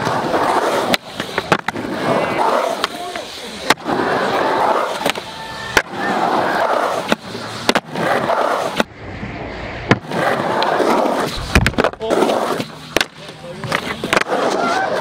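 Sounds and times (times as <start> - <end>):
skateboard clacks: 0.0 - 8.9, 9.9 - 15.0
skateboard wheels rolling on concrete: 0.0 - 15.0.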